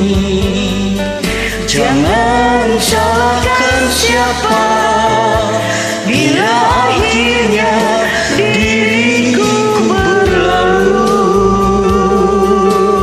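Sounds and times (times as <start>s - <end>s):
person singing karaoke: 0.0s - 13.0s
pop ballad backing track: 0.0s - 13.0s.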